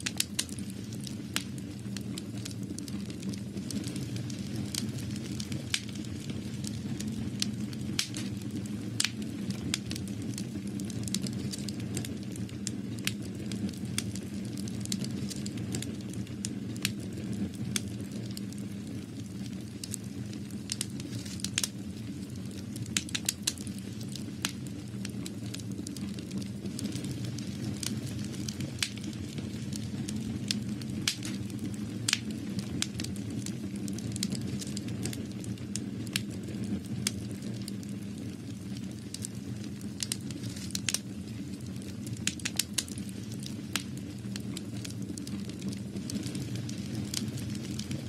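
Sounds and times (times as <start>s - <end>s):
crackling with pops and snaps: 0.0s - 48.0s.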